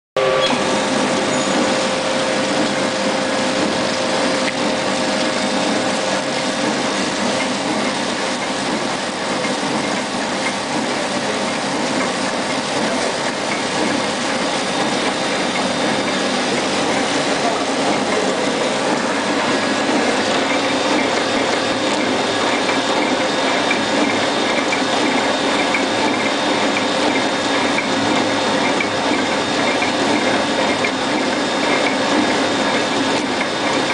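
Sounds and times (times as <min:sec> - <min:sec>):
packaging machine running: 0:00.3 - 0:33.9.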